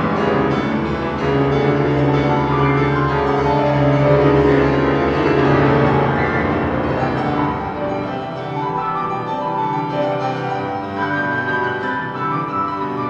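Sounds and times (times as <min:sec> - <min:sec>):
solo piano piece: 0:00.0 - 0:13.0.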